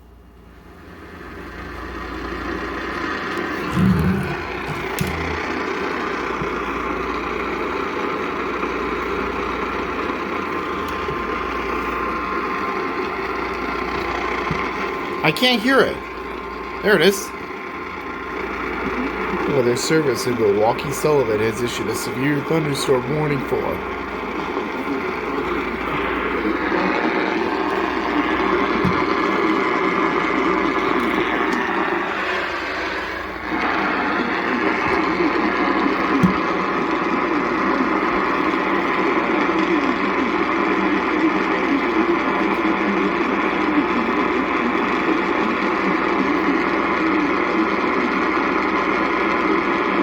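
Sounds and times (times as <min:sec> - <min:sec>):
radio static hiss and rumble: 0:00.5 - 0:50.0.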